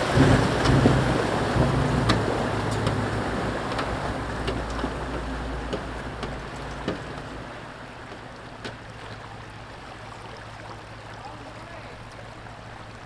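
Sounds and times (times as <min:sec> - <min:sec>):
river flowing: 0:00.0 - 0:13.0
vehicle engine rumbling: 0:00.0 - 0:13.0
water washing: 0:00.0 - 0:13.0.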